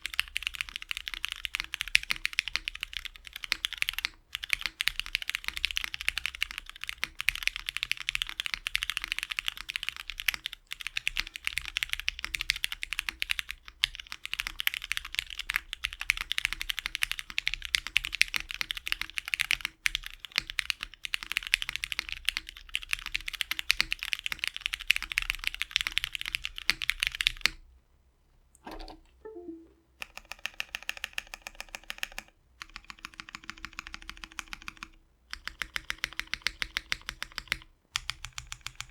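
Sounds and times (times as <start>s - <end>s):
typing on mechanical keyboard: 0.0s - 27.6s, 30.1s - 38.9s.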